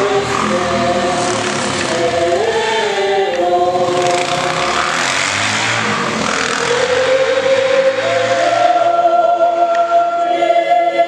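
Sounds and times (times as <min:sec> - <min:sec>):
choir singing a carol: 0:00.0 - 0:11.0.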